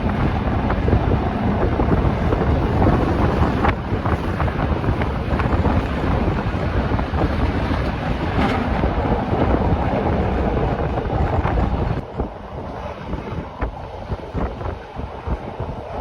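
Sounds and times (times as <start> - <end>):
train wheels rumbling on rails: 0.0 - 16.0
wind on microphone: 0.0 - 16.0.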